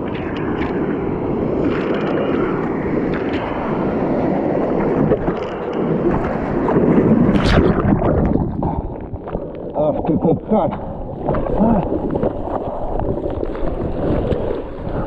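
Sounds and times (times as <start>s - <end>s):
surf water rushing and splashing: 0.0s - 15.0s.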